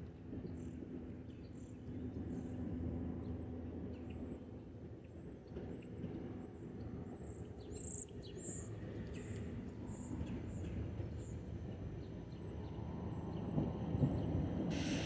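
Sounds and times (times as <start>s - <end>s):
distant train rumble: 0.0s - 15.0s.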